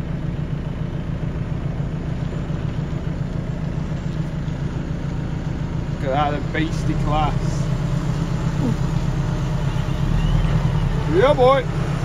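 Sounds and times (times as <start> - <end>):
tractor diesel engine drone: 0.0 - 12.0.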